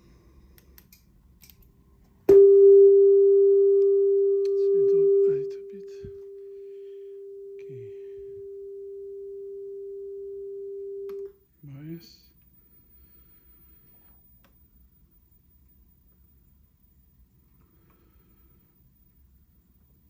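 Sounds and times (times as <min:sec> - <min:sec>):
steady pure test tone: 0:02.3 - 0:20.0.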